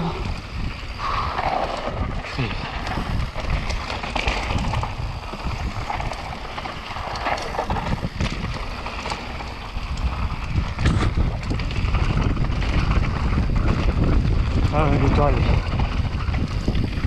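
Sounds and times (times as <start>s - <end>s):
bike rattling: 0.0s - 17.0s
tyres running over rough ground: 0.0s - 17.0s
wind rushing over microphone: 0.0s - 17.0s.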